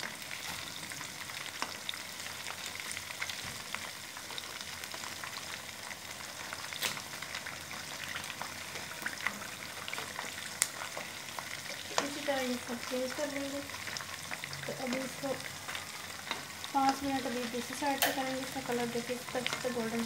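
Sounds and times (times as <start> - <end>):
fish deep-frying in oil: 0.0 - 20.0.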